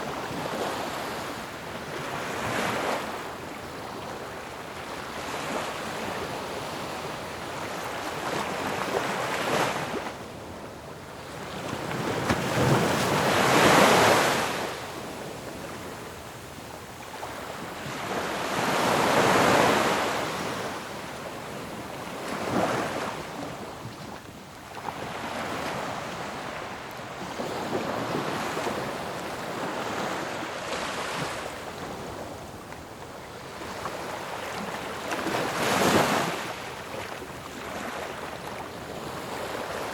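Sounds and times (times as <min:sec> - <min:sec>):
ocean waves crashing on shore: 0:00.0 - 0:39.9.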